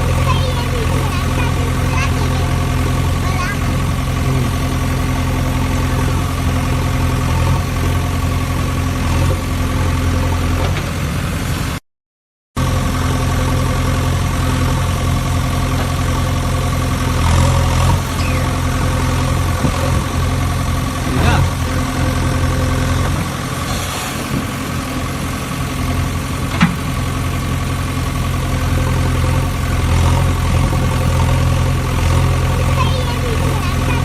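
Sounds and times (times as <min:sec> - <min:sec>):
engine idling: 0:00.0 - 0:11.8, 0:12.6 - 0:34.0.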